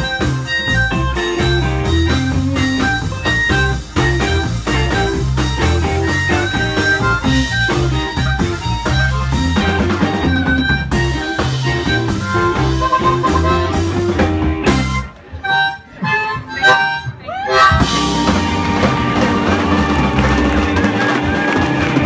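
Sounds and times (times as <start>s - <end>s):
harmonica phrases: 0.0s - 22.0s
live blues band playing: 0.0s - 22.0s.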